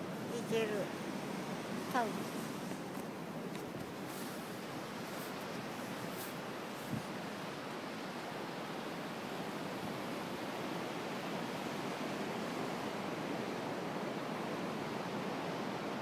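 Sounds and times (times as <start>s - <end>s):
sea surf rushing: 0.0s - 16.0s
wind: 0.0s - 16.0s.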